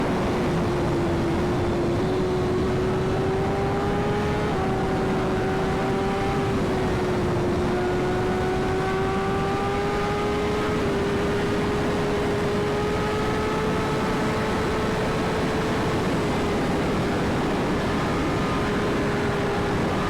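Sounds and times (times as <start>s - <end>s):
motorcycle engine cruising: 0.0s - 20.0s
wind and road rush: 0.0s - 20.0s.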